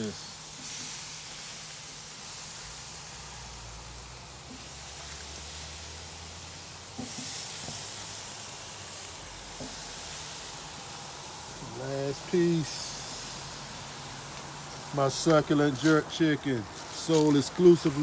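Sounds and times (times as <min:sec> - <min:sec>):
chicken sizzling on a grill: 0:00.0 - 0:18.0.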